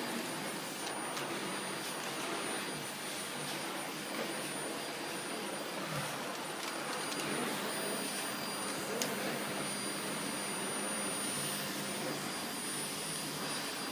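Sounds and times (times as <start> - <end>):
vacuum cleaner on rug: 0.0 - 13.9.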